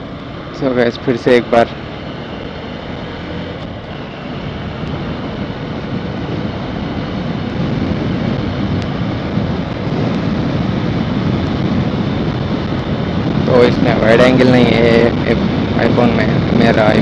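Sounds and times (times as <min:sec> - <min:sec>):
motorcycle engine running: 0:00.0 - 0:17.0
wind noise: 0:00.0 - 0:17.0.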